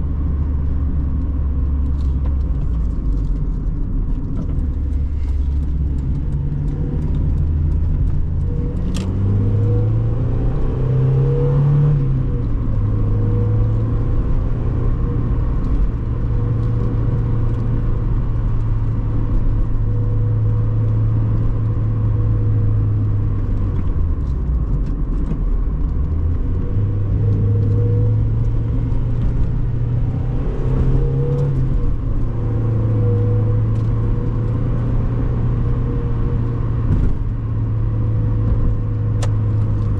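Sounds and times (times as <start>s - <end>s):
car engine shifting gears: 0.0s - 39.9s.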